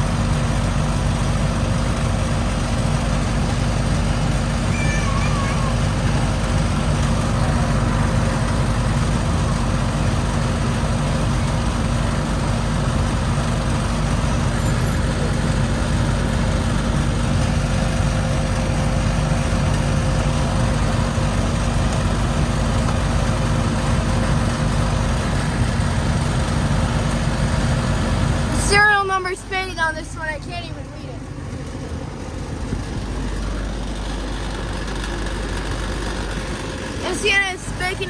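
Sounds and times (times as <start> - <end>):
air conditioner compressor hum: 0.0 - 38.0
condenser fan rushing: 0.0 - 38.0.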